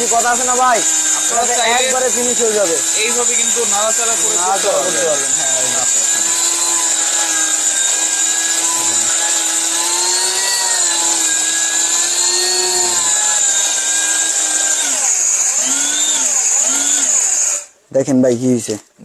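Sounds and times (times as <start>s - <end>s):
electric grinder motor whine: 0.0s - 17.8s.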